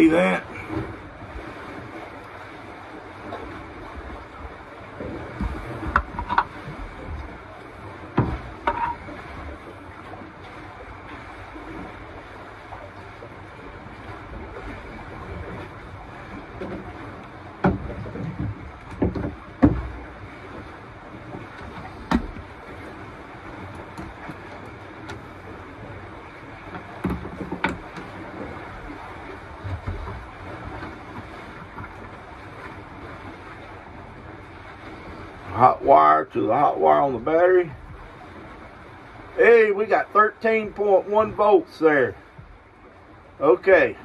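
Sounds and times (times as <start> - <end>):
water noise: 0.0 - 44.0
wind: 0.0 - 44.0.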